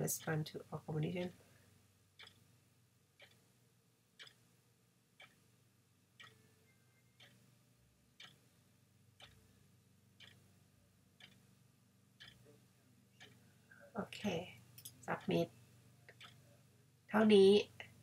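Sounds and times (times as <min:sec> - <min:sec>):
faint clock ticking: 0:00.0 - 0:18.0.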